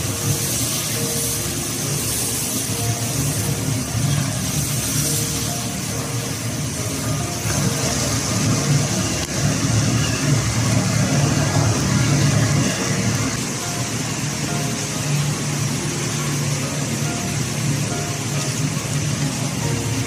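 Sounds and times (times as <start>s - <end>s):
food frying in a wok: 0.0s - 20.0s
wok burner and exhaust roar: 0.0s - 20.0s.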